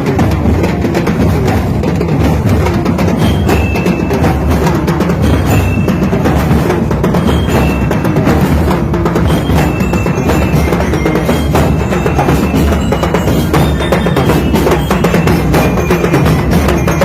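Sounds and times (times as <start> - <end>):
street drum band beat: 0.0 - 17.0.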